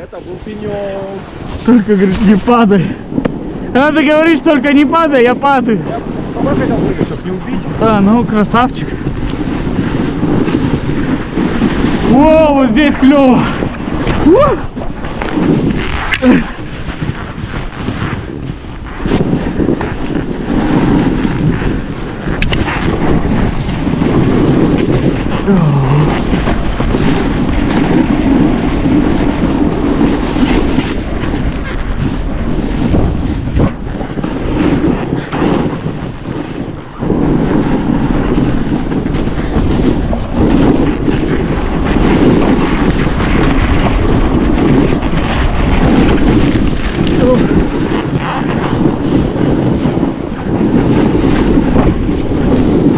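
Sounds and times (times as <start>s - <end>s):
snowboard scraping through snow: 0.0s - 52.9s
wind rumbling on microphone: 0.0s - 52.9s.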